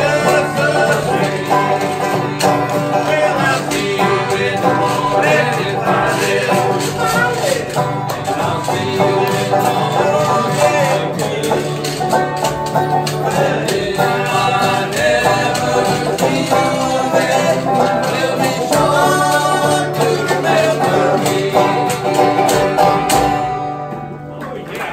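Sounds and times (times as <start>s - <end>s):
group singing: 0.0s - 23.7s, 24.5s - 24.9s
acoustic guitar and banjo strumming: 0.0s - 24.9s.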